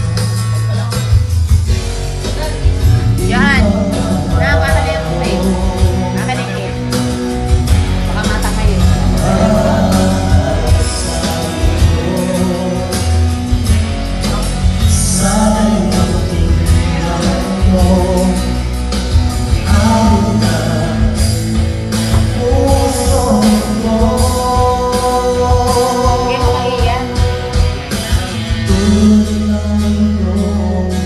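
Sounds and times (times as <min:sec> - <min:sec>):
karaoke backing track: 0:00.0 - 0:31.0
person singing: 0:02.2 - 0:31.0.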